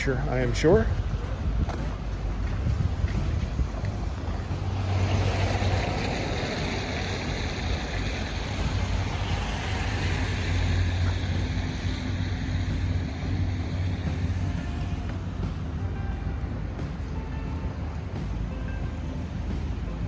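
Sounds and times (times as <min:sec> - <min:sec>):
low traffic rumble: 0:00.0 - 0:20.0
tyre hiss of passing traffic: 0:00.0 - 0:20.0.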